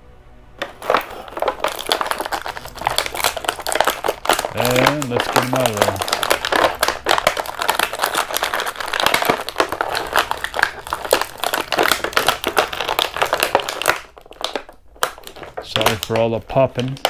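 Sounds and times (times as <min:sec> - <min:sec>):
plastic packaging crinkling: 0:00.6 - 0:17.0.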